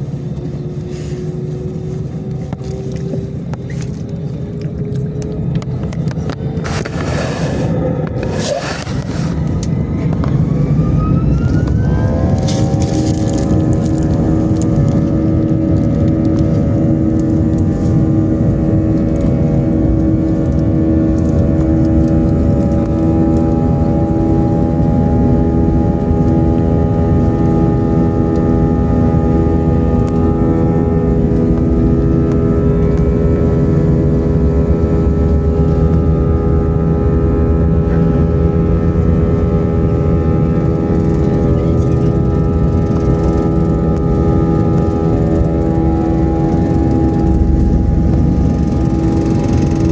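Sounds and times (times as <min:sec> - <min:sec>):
aircraft engines whining: 0:00.0 - 0:49.9
heavy rumble: 0:00.0 - 0:49.9.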